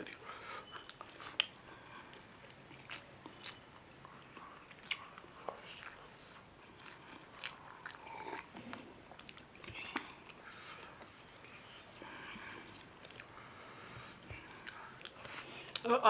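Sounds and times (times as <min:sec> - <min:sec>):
person chewing food: 0:00.0 - 0:15.9.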